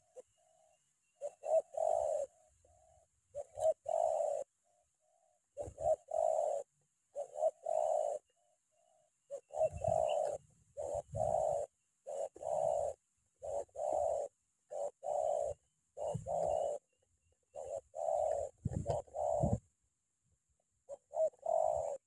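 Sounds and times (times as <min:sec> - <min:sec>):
dove cooing: 0:00.0 - 0:19.8, 0:20.8 - 0:22.0.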